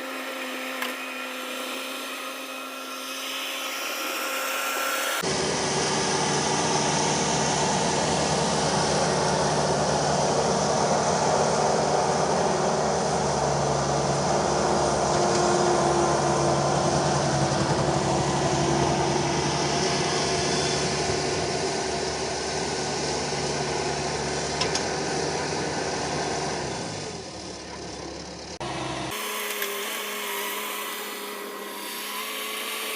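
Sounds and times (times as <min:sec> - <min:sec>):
loader engine running: 0:00.0 - 0:32.9.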